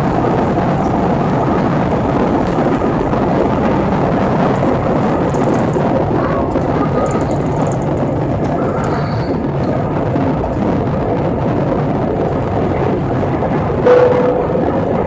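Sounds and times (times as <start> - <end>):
jet engines roaring in cabin: 0.0 - 15.0.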